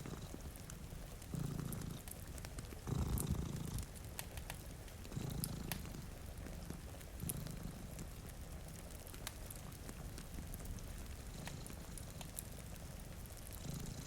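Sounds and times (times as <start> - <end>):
cat purring: 0.0 - 14.0
faint rain hiss: 0.0 - 14.0
wood fire crackling: 0.0 - 14.0.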